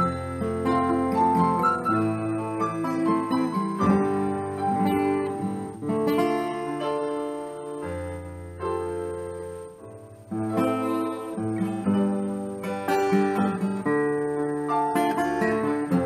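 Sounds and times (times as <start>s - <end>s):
keyboard accompaniment: 0.0s - 16.0s
strummed acoustic guitar: 0.0s - 16.0s.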